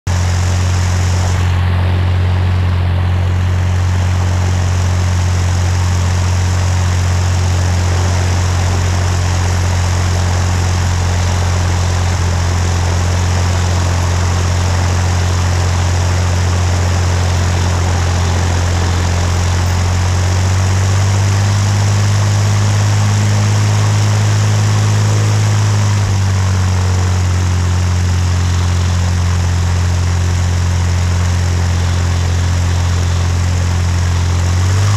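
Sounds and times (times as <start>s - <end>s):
propeller aircraft engine droning: 0.0s - 34.9s.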